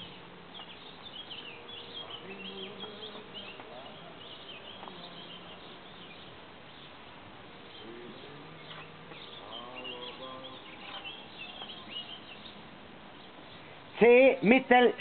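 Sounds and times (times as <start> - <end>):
faint distant voices: 0.0 - 15.0
small birds chirping: 0.0 - 15.0.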